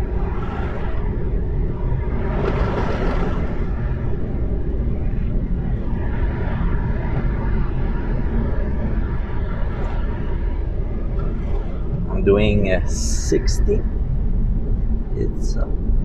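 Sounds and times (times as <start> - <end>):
car driving rumble inside cabin: 0.0 - 16.0.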